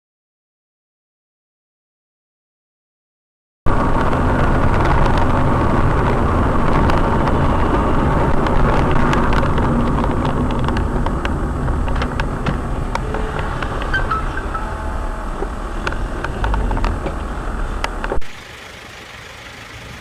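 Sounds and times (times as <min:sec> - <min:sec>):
car engine and road rumble: 0:03.7 - 0:20.0.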